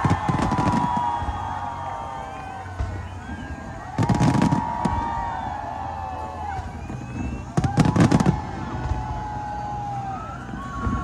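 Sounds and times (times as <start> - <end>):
fireworks bangs: 0.0 - 9.8
whistling fireworks: 0.0 - 11.0.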